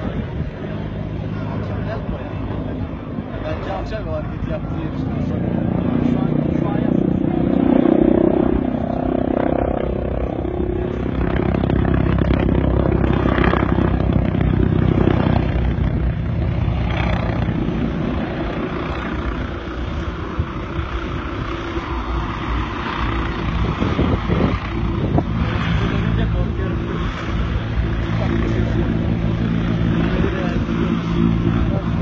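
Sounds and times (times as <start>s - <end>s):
helicopter rotor beating: 0.0s - 32.0s
turboshaft engine whine: 0.0s - 32.0s.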